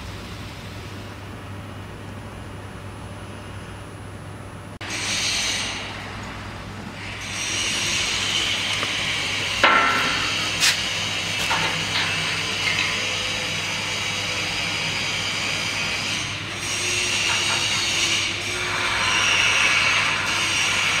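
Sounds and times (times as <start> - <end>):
workshop hum and hiss: 0.0 - 21.0.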